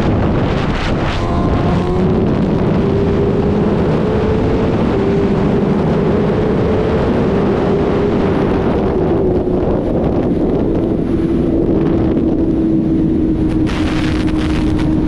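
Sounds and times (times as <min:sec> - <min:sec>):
motorcycle engine at high revs: 0:00.0 - 0:11.2, 0:11.8 - 0:15.0
wind rush on microphone: 0:00.0 - 0:15.0.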